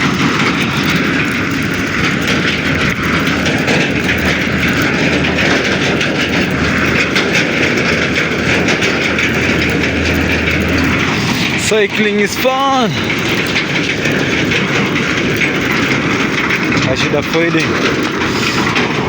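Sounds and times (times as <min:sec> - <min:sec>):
bicycle rattling: 0:00.0 - 0:19.0
tyres rumbling on dirt road: 0:00.0 - 0:19.0.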